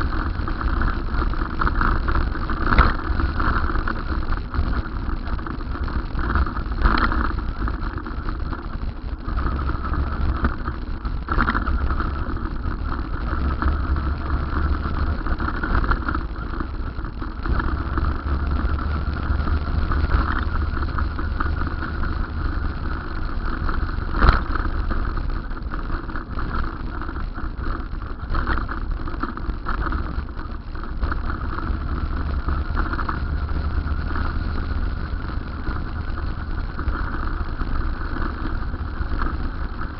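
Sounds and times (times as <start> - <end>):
electric cycle hum: 0.0 - 39.9
road and wind noise: 0.0 - 39.9.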